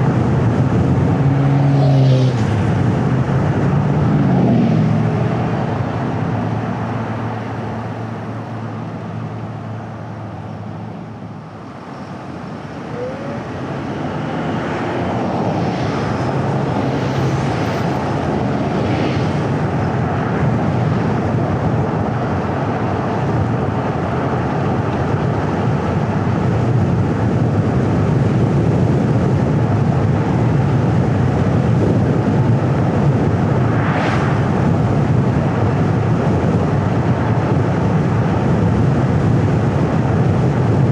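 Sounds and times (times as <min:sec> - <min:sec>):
low engine drone: 0:00.0 - 0:26.0, 0:31.4 - 0:38.6
tyre and road noise: 0:00.0 - 0:40.9
wind: 0:00.0 - 0:40.9.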